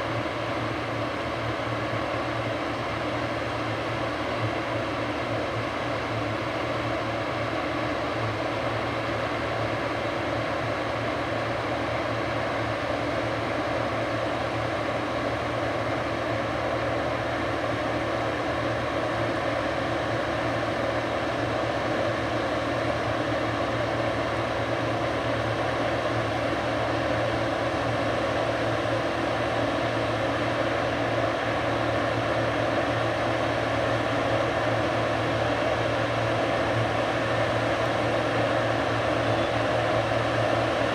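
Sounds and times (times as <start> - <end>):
diesel machinery engine drone: 0.0 - 40.9.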